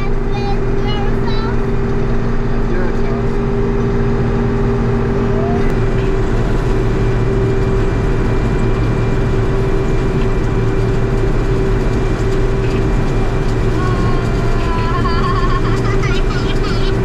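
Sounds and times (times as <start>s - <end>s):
combine harvester engine drone: 0.0s - 17.0s
harvester feeding corn: 0.0s - 17.0s.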